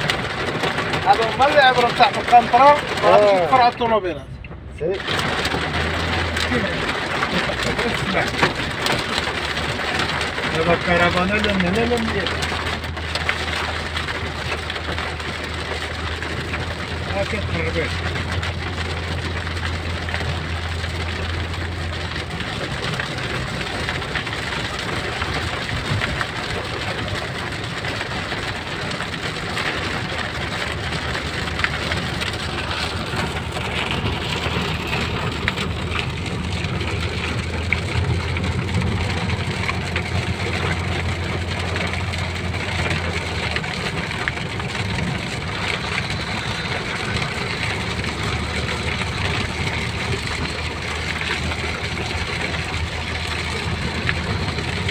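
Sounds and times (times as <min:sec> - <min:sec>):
car road noise inside cabin: 0:00.0 - 0:54.9
low engine drone: 0:01.9 - 0:54.9.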